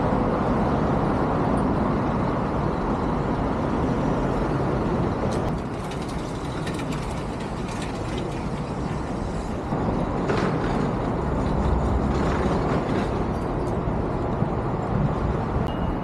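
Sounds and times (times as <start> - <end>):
road traffic roar: 0.0 - 16.0.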